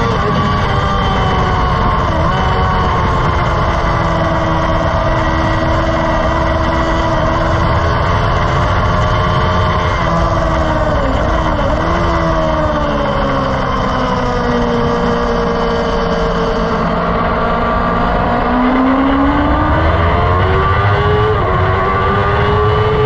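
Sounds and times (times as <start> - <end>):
engine running at high revs: 0.0 - 23.0.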